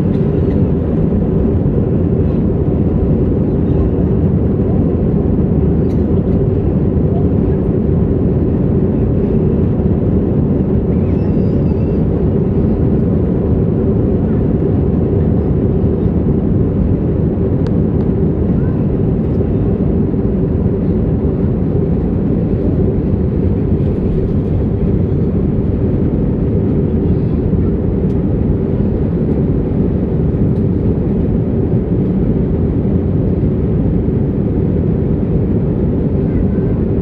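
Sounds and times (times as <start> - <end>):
airliner cabin engine roar: 0.0 - 37.0.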